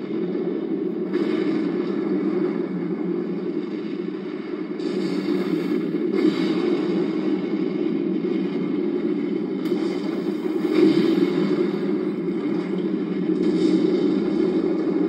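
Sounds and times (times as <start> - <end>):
film soundtrack rumble: 0.0 - 15.0.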